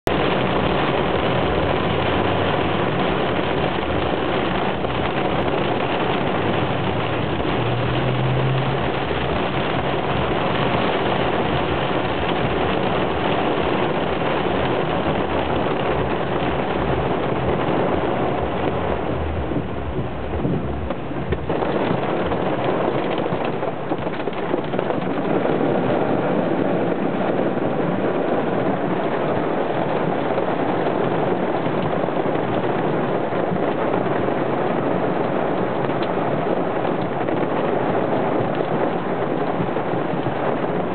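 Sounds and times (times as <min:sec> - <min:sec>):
car driving on wet road: 0:00.0 - 0:40.9
heavy rain drumming on car roof: 0:00.0 - 0:40.9.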